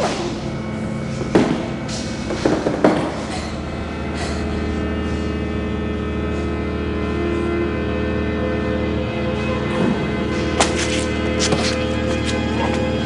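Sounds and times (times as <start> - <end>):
horror film score drone: 0.0 - 13.0.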